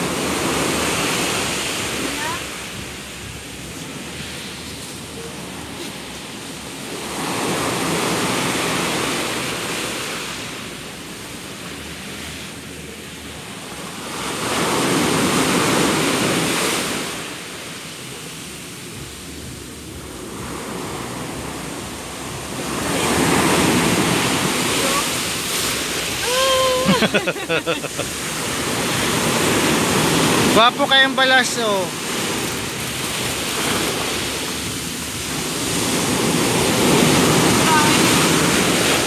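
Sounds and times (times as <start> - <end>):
sea waves crashing on beach: 0.0 - 39.0.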